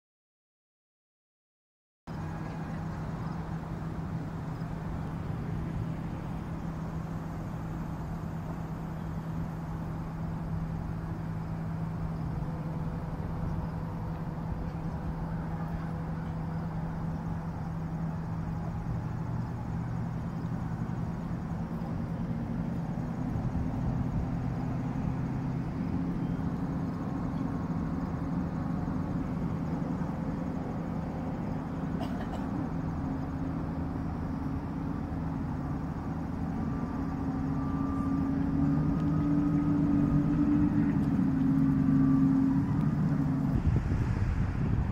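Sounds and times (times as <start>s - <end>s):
low engine hum: 2.1s - 44.9s.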